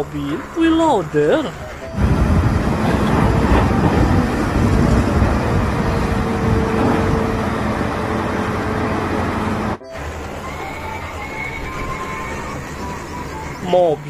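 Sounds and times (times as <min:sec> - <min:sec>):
wheel loader engine rumbling: 0:00.0 - 0:14.0.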